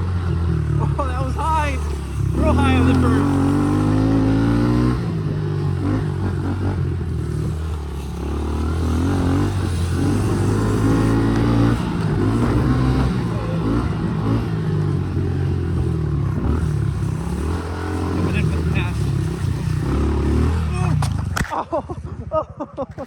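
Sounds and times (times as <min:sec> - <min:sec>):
dirt bike engine revving: 0:00.0 - 0:21.4.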